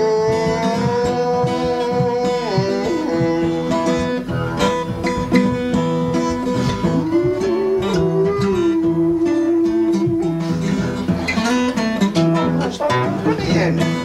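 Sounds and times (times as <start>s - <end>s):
acoustic guitar picking: 0.0s - 14.0s
harmonica bending notes: 0.0s - 14.0s.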